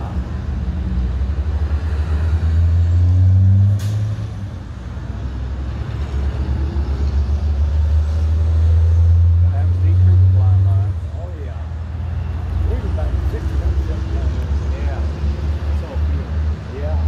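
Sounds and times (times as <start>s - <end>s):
truck engines passing: 0.0s - 17.0s.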